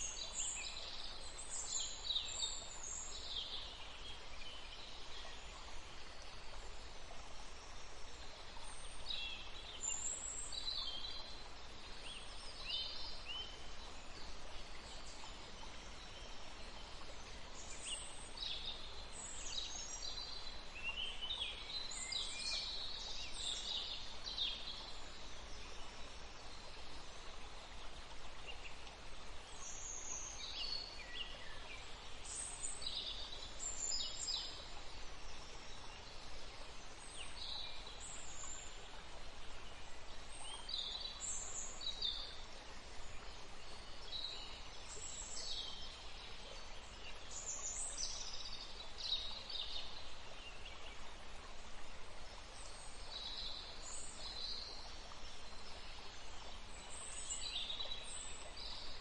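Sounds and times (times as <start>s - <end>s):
running water hiss: 0.0s - 59.0s.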